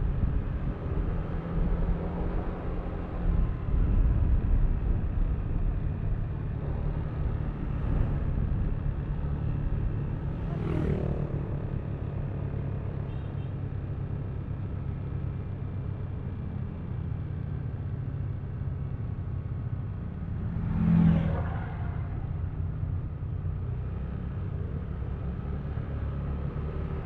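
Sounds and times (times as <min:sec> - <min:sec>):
road and traffic noise: 0:00.0 - 0:27.0.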